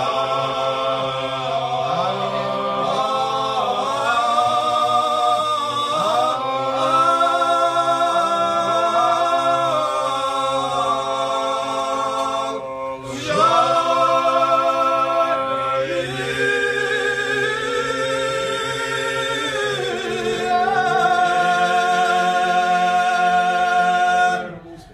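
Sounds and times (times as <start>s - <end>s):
men singing in harmony: 0.0s - 24.9s.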